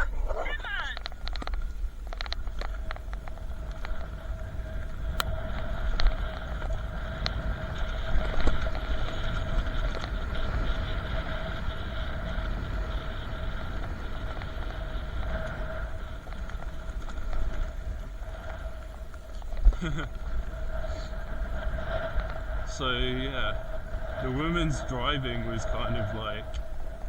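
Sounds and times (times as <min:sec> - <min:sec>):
steady whine: 0:00.0 - 0:27.0
wind rumble on microphone: 0:00.0 - 0:27.0
sharp ticks: 0:00.7 - 0:27.0.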